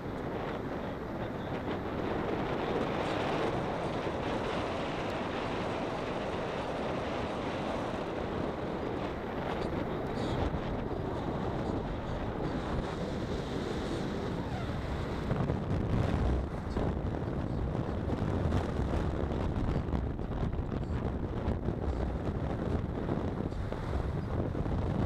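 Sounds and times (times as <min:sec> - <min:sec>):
car tyres and engine rumble: 0:00.0 - 0:25.0
wind rushing over microphone: 0:00.0 - 0:25.0.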